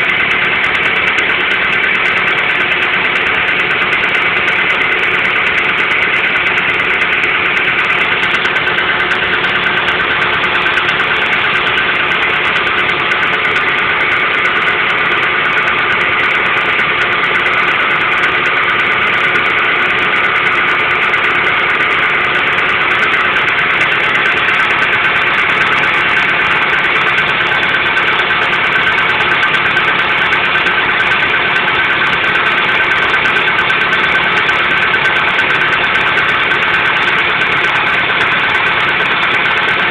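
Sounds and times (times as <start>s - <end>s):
car engine idling: 0.0s - 39.9s
engine knocking or ringing: 0.0s - 39.9s.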